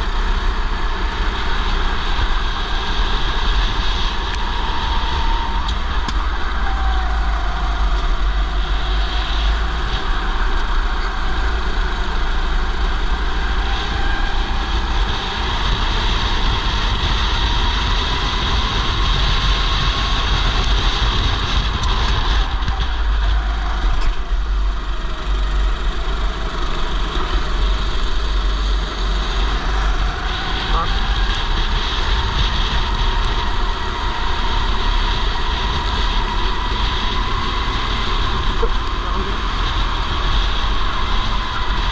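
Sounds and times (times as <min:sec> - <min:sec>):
go-kart engine: 0:00.0 - 0:41.9
other karts nearby: 0:00.0 - 0:41.9
wind buffeting microphone: 0:00.0 - 0:41.9.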